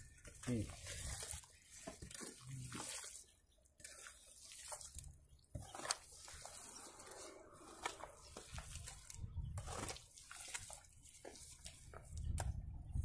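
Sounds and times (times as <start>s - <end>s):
hoe scraping wet mud: 0.0s - 12.3s.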